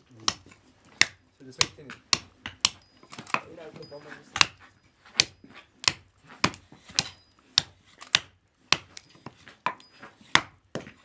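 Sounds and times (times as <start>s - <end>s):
hatchet chopping wood: 0.0s - 11.0s.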